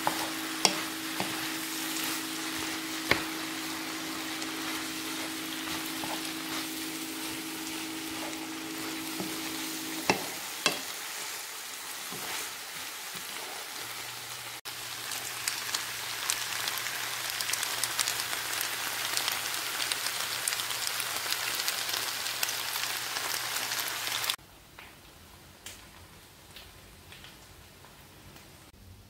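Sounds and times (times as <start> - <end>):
food sizzling in a frying pan: 0.0 - 24.4.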